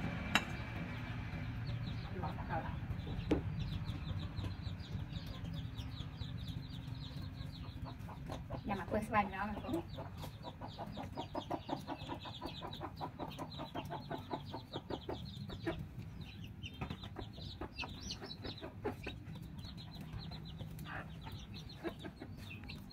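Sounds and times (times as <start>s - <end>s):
hens clucking: 0.0s - 22.9s.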